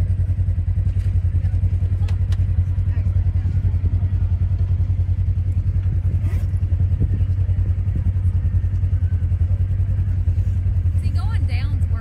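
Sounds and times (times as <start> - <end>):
utility vehicle engine droning: 0.0 - 12.0.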